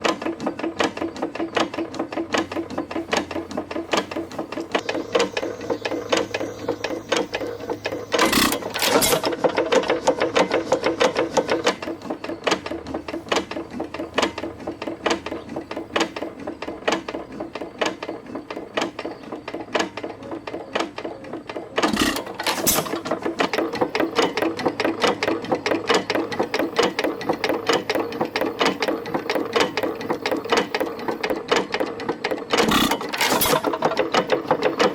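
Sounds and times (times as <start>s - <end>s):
engine clanking: 0.0s - 34.9s.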